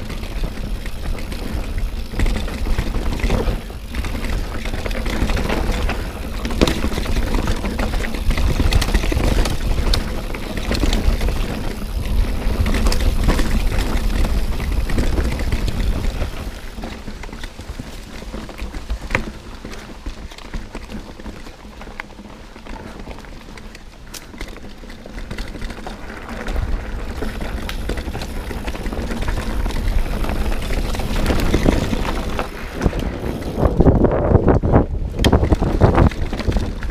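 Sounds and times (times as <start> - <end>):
wind rumble on microphone: 0.0 - 19.8, 25.8 - 36.9
bike clicking and rattling: 0.0 - 36.9
bike tyres rolling over stones: 0.0 - 36.9.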